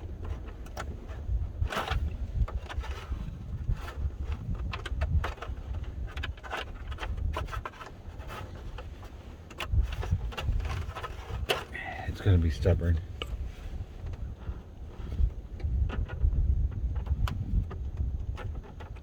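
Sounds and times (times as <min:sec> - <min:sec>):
handling clicks and knocks: 0:00.0 - 0:14.2, 0:15.5 - 0:19.0.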